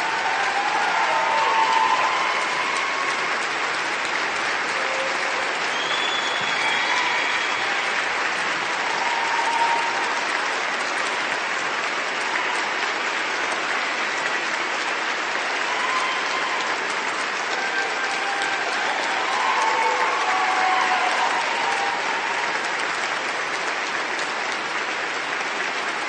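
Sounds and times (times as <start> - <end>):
crowd applauding: 0.0 - 26.0.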